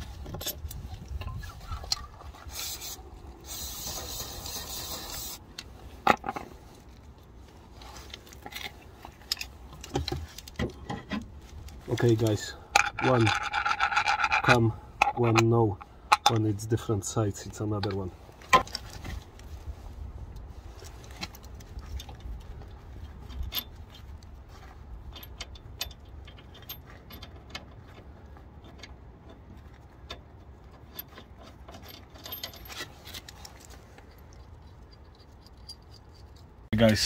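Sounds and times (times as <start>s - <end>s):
low steady rumble: 0.0s - 37.0s.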